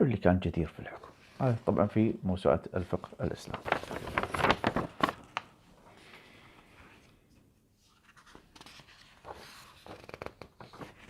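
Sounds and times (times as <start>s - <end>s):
soft paper rustles: 0.8s - 1.8s, 2.8s - 11.0s.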